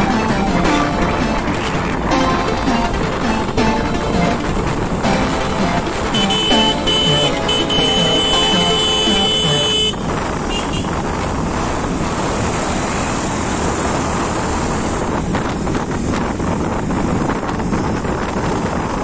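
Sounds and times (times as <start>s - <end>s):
wind rushing over microphone: 0.0s - 7.8s, 8.6s - 19.0s
motorbike engine and road rumble: 0.0s - 19.0s.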